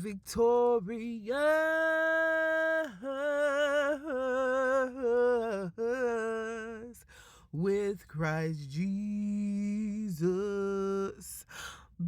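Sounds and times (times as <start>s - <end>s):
person singing unaccompanied: 0.0s - 12.0s.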